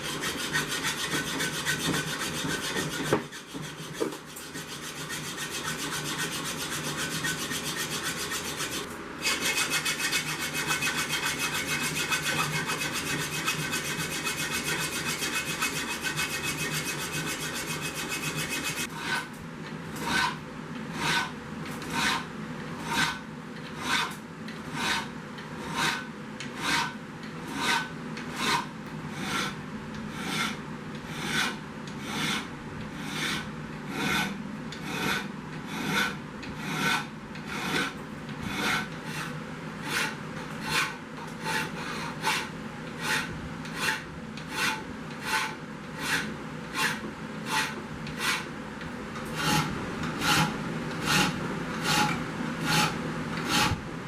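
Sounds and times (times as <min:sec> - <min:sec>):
hand file rasping on steel: 0:00.0 - 0:19.3, 0:20.0 - 0:23.2, 0:23.8 - 0:48.5, 0:49.4 - 0:53.8.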